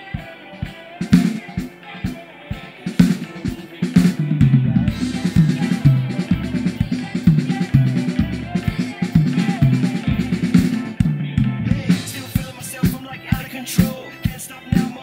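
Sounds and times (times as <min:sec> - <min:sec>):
backing music with bass line: 0:00.0 - 0:15.0
drum kit playing: 0:00.6 - 0:15.0.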